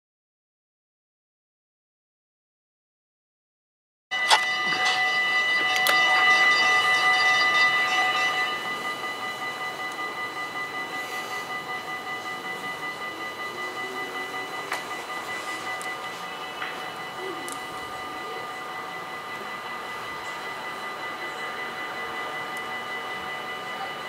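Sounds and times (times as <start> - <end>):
rails ringing with high tones: 4.1 - 24.0
soft regular pulsing: 4.2 - 24.0.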